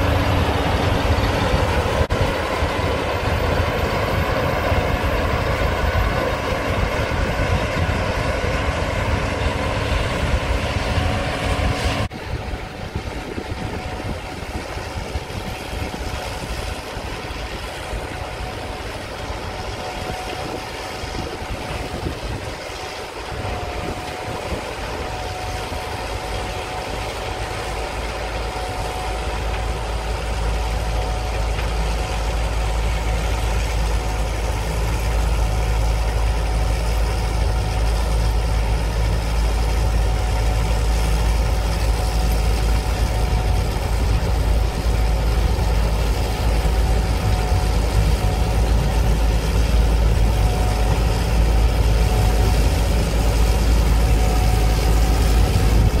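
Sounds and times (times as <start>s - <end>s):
combine engine drone: 0.0s - 56.0s
high machinery whine: 0.0s - 56.0s.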